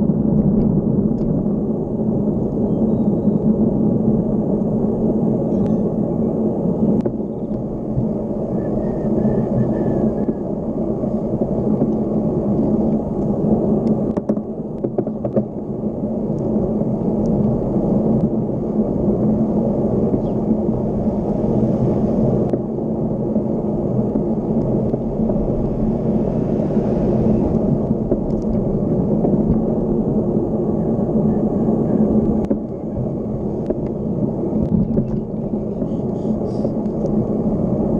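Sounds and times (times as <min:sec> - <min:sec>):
wind and road noise roar: 0:00.0 - 0:37.9.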